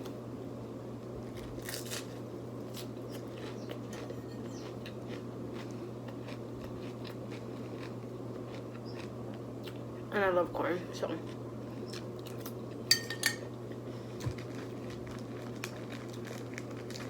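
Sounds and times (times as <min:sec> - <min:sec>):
overhead fan hum: 0:00.0 - 0:17.0
close chewing with crunches: 0:01.2 - 0:10.0, 0:11.0 - 0:12.9, 0:13.6 - 0:17.0.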